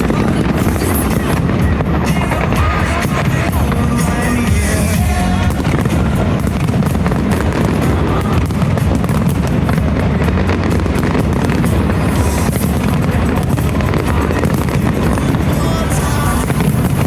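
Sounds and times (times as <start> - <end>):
fireworks banging: 0.0 - 17.0
loud music: 0.0 - 17.0.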